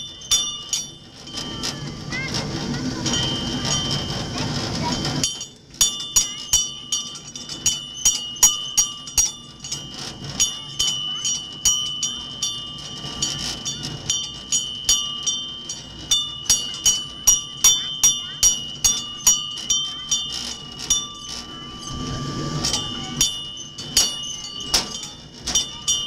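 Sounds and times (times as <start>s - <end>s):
locomotive bell ringing: 0.0s - 26.0s
low rumble of train running: 0.0s - 26.0s.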